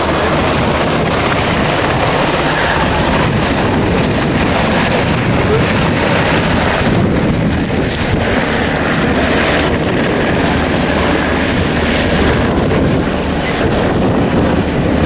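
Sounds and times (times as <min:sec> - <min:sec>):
helicopter rotors beating: 0:00.0 - 0:15.0.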